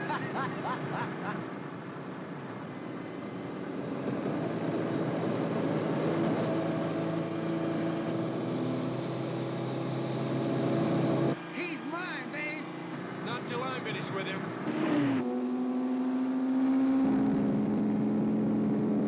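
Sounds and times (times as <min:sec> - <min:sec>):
motorcycle engines droning: 0:00.0 - 0:19.0.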